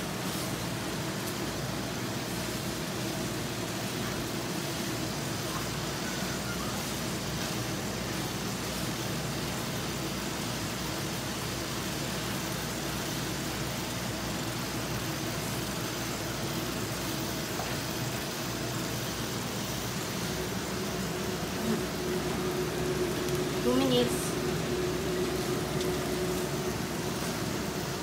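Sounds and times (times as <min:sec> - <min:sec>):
meat sizzling in a wok: 0:00.0 - 0:28.0.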